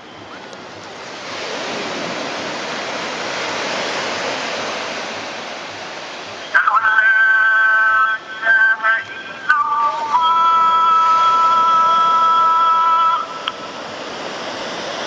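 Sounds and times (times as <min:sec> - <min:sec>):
wash of noise: 0:00.0 - 0:15.0.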